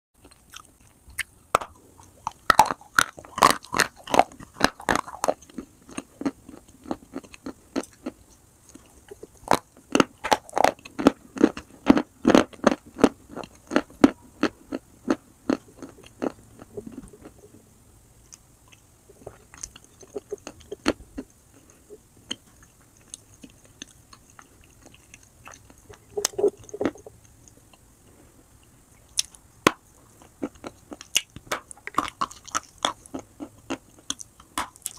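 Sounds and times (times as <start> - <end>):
soft chewing: 0.2 - 34.9.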